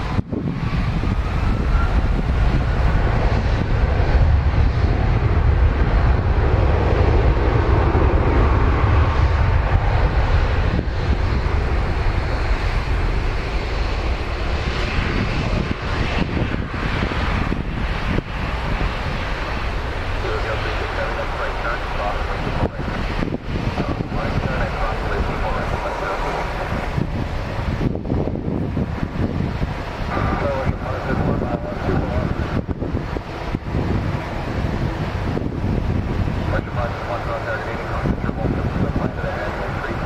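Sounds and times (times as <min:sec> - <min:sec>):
jet engines rumbling: 0:00.0 - 0:40.0
wind buffeting microphone: 0:00.0 - 0:40.0.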